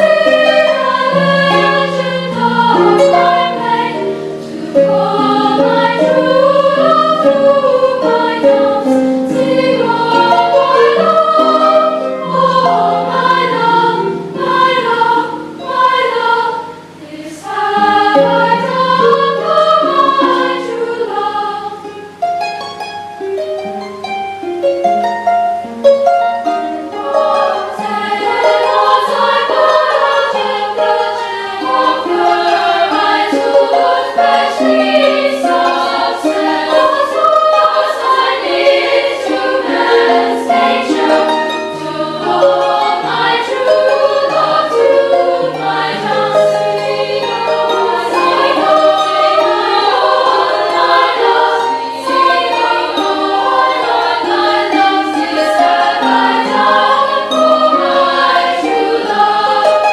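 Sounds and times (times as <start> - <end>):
girls' choir singing: 0.0 - 23.2, 25.1 - 59.9
harp notes: 0.0 - 59.9.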